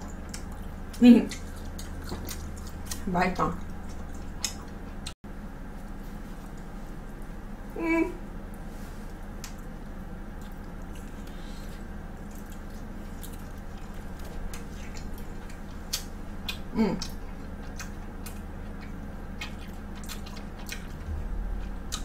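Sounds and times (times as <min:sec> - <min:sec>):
chewing pizza: 0:00.0 - 0:22.0
low hum: 0:00.0 - 0:22.0.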